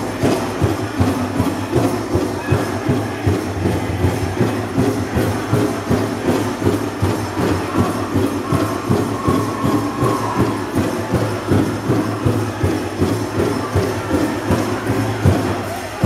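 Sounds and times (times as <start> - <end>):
drum beaten in steady rhythm: 0.0 - 16.0
jingling bells: 0.0 - 16.0.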